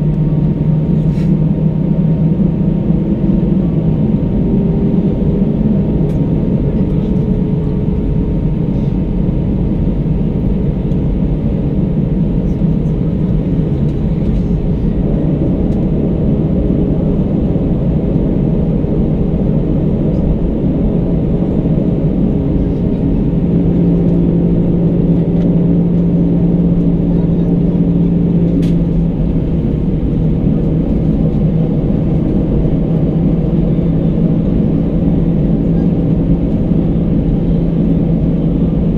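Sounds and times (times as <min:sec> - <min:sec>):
jet engine rumble in cabin: 0:00.0 - 0:38.9.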